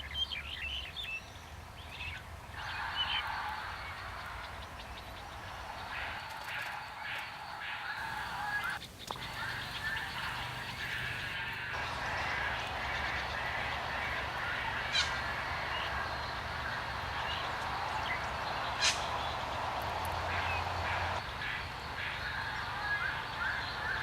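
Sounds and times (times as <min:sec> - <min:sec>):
birds chattering: 0:02.6 - 0:24.0.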